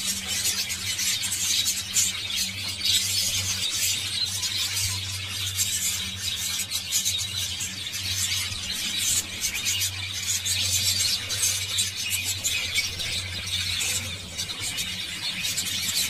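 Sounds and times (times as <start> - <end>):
birds chattering and chirping: 0.0 - 16.0.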